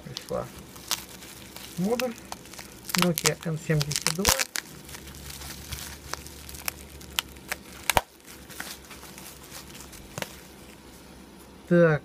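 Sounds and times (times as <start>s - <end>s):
bubble wrap crinkling: 0.0s - 11.1s.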